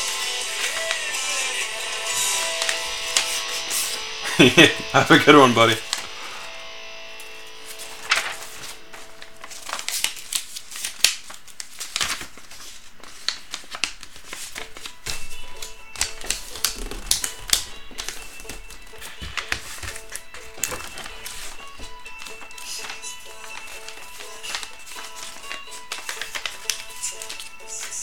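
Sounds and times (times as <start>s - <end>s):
paper rustling and crinkling: 0.0s - 28.0s
quiet background music: 0.0s - 28.0s.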